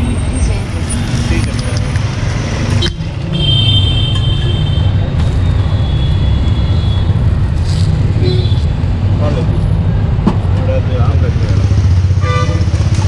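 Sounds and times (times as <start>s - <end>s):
bus running: 0.0s - 13.0s
traffic rumble: 0.0s - 13.0s.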